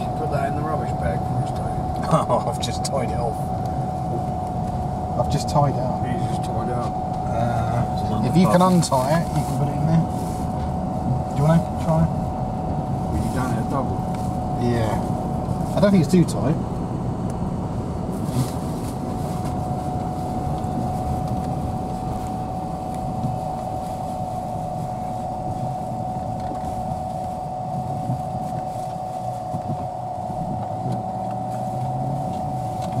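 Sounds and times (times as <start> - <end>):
car road noise rumble: 0.0 - 33.0
steady high whine: 0.0 - 33.0.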